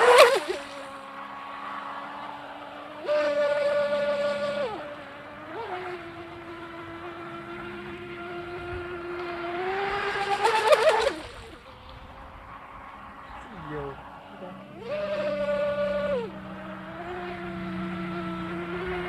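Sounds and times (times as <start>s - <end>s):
high-pitched electric motor whine: 0.0s - 19.0s.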